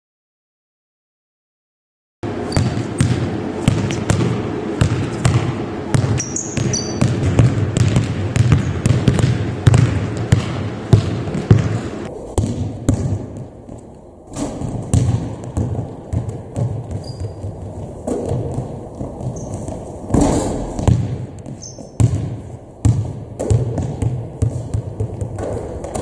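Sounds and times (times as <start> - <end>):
basketball bouncing on floor: 2.5 - 26.0.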